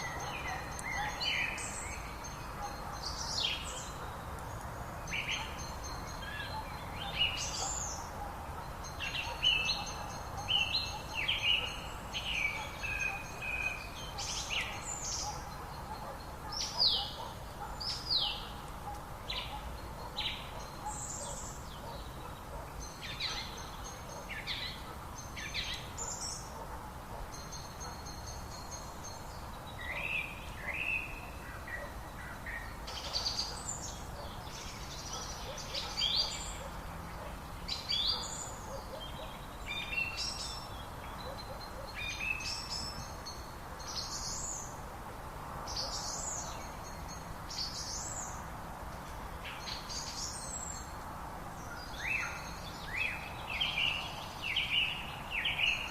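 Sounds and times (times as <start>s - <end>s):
background hiss: 0.0s - 55.9s
songbirds singing and chirping: 0.0s - 55.9s.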